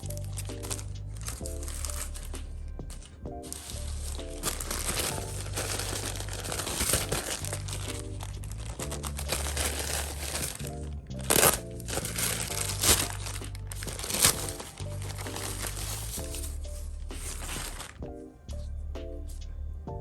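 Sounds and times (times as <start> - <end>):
packaging crinkling and rustling: 0.0 - 2.3, 2.9 - 18.0
background music with bass line: 0.0 - 20.0.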